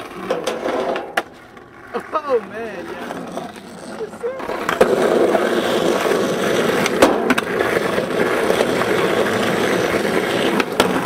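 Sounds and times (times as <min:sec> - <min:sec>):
skateboard wheels rolling on asphalt: 0:00.0 - 0:11.0.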